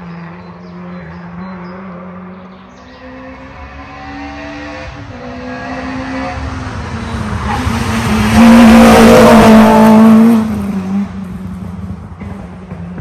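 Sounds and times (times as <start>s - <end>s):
rally car engine passing: 0.0s - 13.0s.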